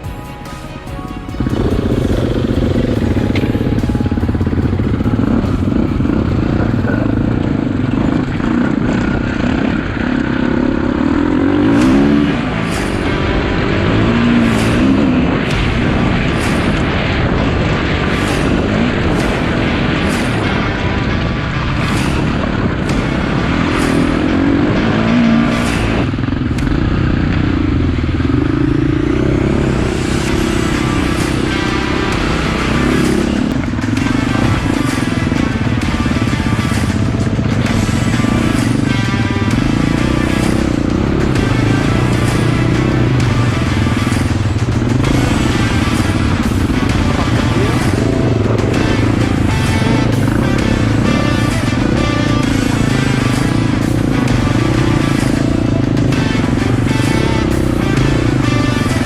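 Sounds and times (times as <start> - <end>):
dirt bike engine revving: 1.2 - 59.0.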